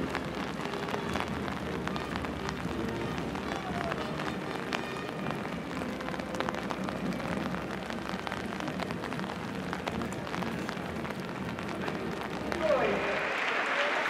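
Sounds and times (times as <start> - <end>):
rain on umbrellas and cobblestones: 0.0 - 14.0.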